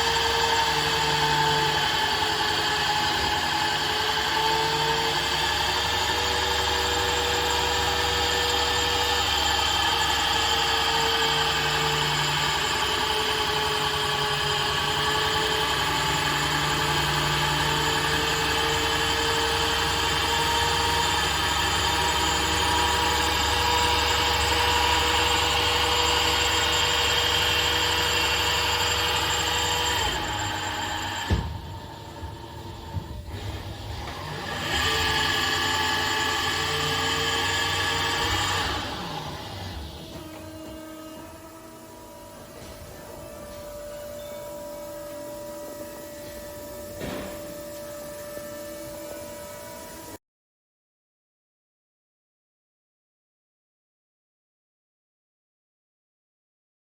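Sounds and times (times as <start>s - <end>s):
lathe mechanical whine: 0.0s - 50.2s.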